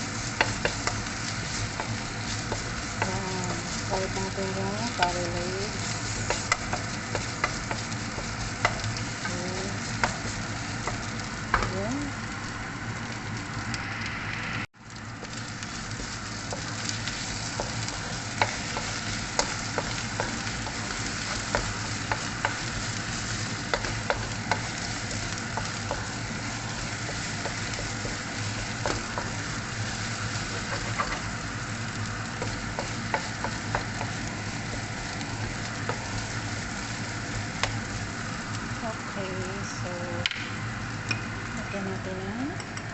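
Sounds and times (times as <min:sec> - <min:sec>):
oil sizzling in a frying pan: 0:00.0 - 0:42.9.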